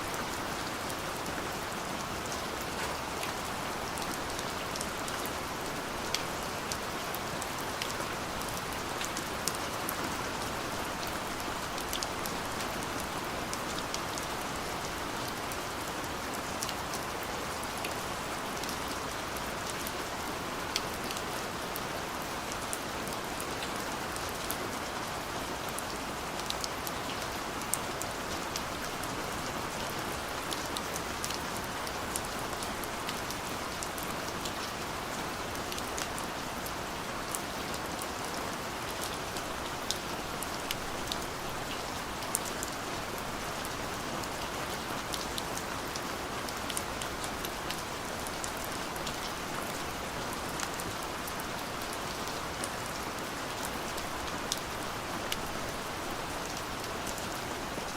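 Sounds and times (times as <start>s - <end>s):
light rain falling: 0.0s - 57.9s.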